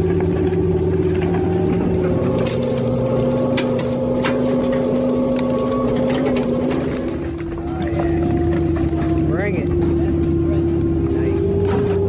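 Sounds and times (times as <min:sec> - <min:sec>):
stump grinder mechanical hum: 0:00.0 - 0:12.0.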